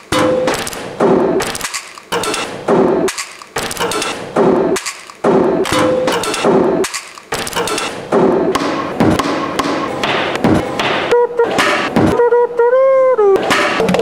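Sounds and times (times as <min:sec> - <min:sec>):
objects knocked and thudding: 0:00.0 - 0:12.2.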